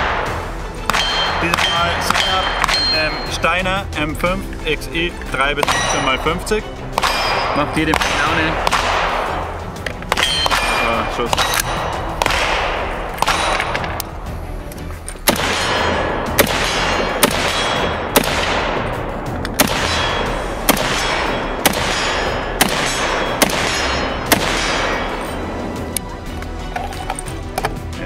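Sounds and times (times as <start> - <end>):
rifle shots with echo: 0.0 - 3.4, 5.6 - 14.3, 15.2 - 25.8.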